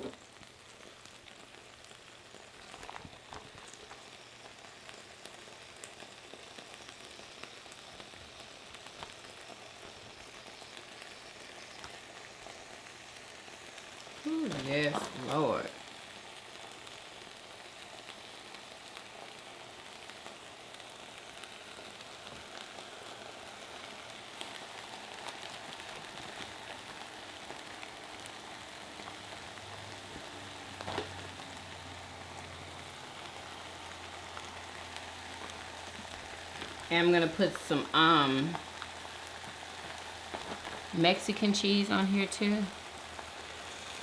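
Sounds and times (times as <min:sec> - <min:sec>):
croissants sizzling on grill: 0:00.0 - 0:44.0.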